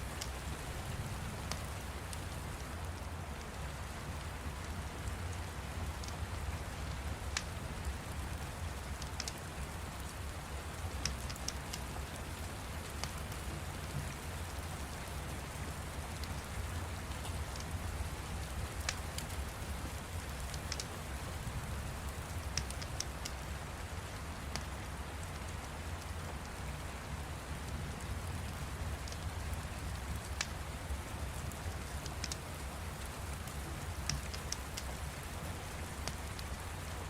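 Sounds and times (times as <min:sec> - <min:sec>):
fire crackling and popping: 0:00.0 - 0:03.0, 0:07.2 - 0:26.6, 0:28.1 - 0:37.0
steady rain: 0:00.0 - 0:37.0.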